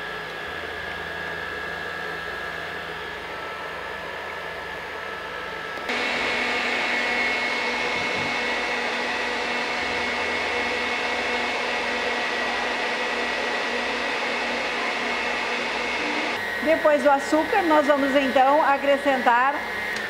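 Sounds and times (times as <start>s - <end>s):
stand mixer motor whine: 0.0s - 20.0s.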